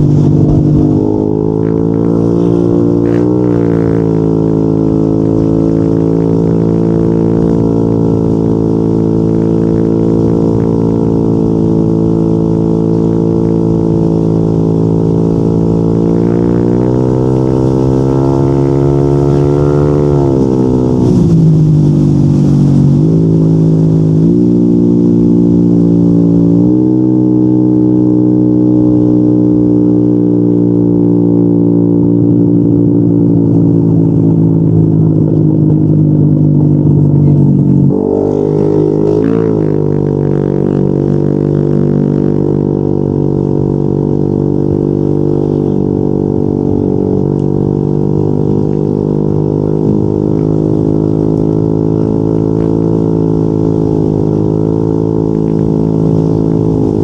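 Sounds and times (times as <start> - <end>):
scooter engine revving: 0.0 - 57.0.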